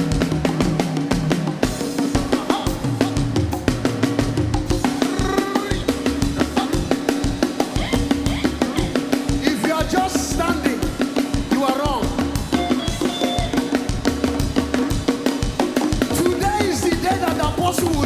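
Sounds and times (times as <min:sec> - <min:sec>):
fast drum-kit beat: 0:00.0 - 0:18.0
live band playing dance music: 0:00.0 - 0:18.0.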